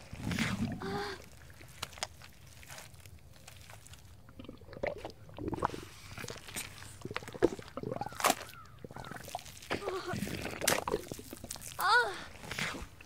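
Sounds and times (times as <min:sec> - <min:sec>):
wet mud squelching and sucking: 0:00.0 - 0:13.0.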